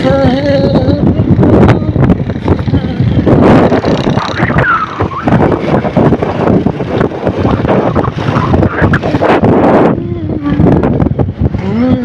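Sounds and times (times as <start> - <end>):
gusty thumps: 0.0 - 11.6
wind buffeting microphone: 0.0 - 12.0
road noise rushing: 1.1 - 11.6.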